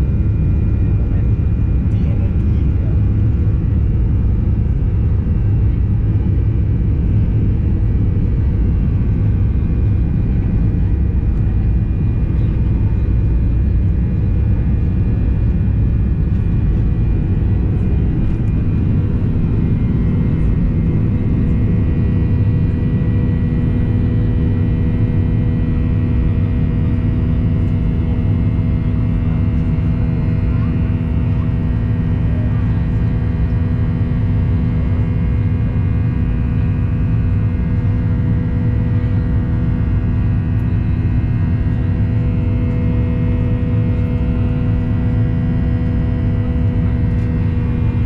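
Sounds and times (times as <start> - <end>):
aircraft engines rumbling: 0.0 - 48.0.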